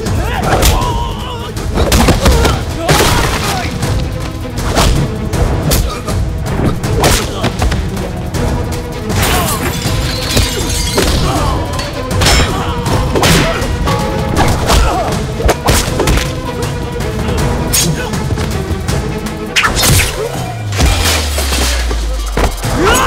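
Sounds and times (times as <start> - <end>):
dramatic background score: 0.0 - 23.0.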